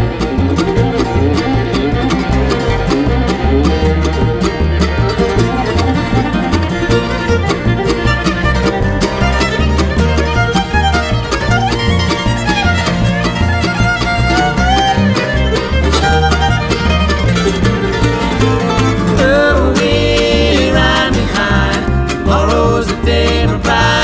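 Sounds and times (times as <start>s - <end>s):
bluegrass band playing: 0.0s - 24.0s
fiddle melody: 0.0s - 24.0s.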